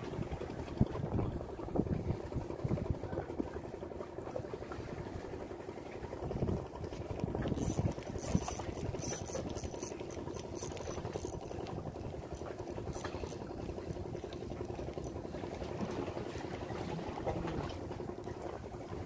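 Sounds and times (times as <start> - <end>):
boat engine humming: 0.0 - 19.0
water noise: 0.0 - 19.0
wind: 0.0 - 19.0.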